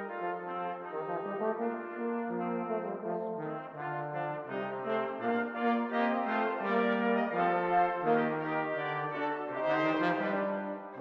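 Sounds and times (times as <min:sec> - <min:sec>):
brass ensemble playing: 0:00.0 - 0:11.0.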